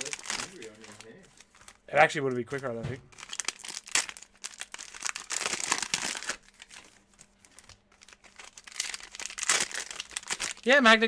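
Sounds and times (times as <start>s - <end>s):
plastic wrappers tearing and crinkling: 0.0s - 11.0s.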